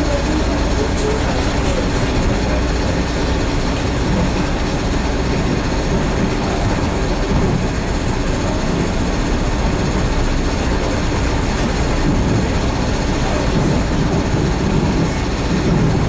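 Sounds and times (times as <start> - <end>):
train wheels on rail: 0.0 - 16.0.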